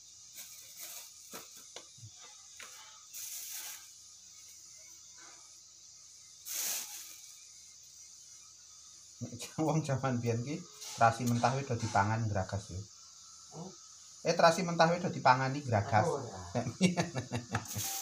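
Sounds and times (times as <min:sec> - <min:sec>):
high-pitched background hum: 0:00.0 - 0:18.0.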